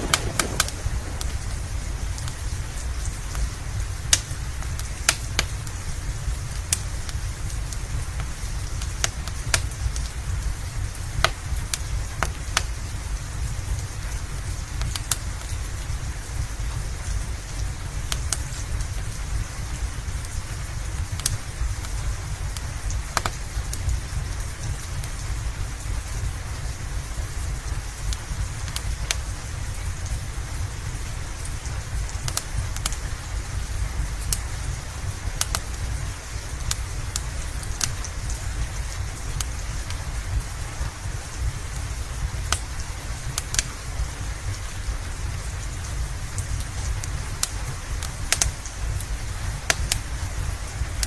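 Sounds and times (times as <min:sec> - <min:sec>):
crackling fireplace: 0:00.0 - 0:51.0
steady rain: 0:00.0 - 0:51.0.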